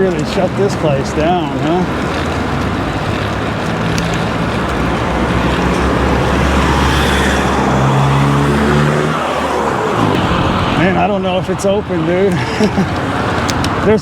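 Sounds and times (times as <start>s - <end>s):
noisy background: 0.0s - 14.0s
vehicle engine pulling away: 0.0s - 14.0s.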